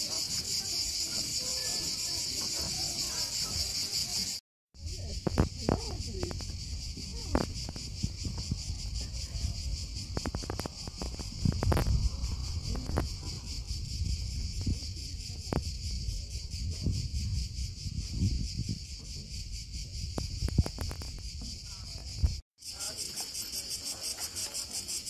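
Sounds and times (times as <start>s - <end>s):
insects shrilling: 0.0s - 25.0s.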